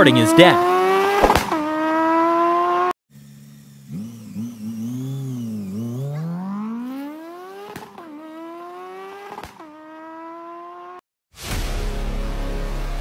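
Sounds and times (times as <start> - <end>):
vehicle engine accelerating hard: 0.0 - 11.0.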